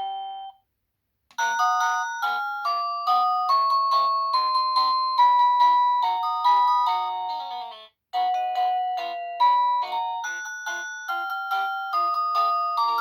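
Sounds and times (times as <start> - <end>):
electronic doorbell chime melody: 0.0 - 0.6, 1.4 - 13.0.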